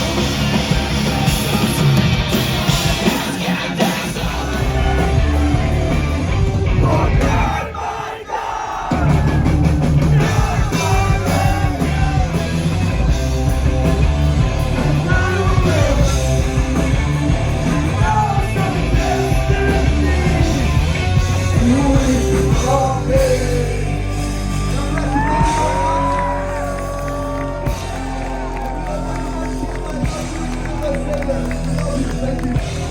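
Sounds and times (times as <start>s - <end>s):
live rock band: 0.0s - 7.9s, 8.8s - 32.9s.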